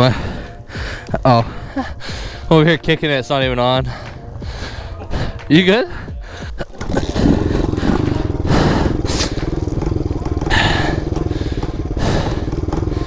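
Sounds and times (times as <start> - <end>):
motorbike engine running unevenly: 0.0 - 13.0.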